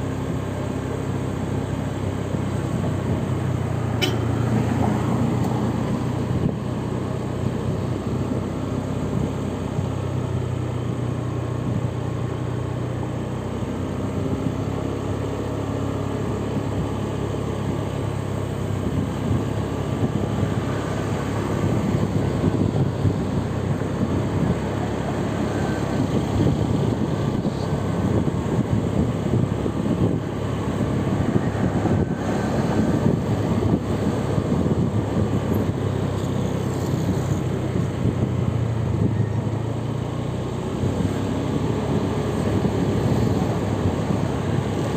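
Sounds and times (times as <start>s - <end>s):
tyre and road noise: 0.0s - 44.9s
vehicle engine hum: 0.0s - 44.9s.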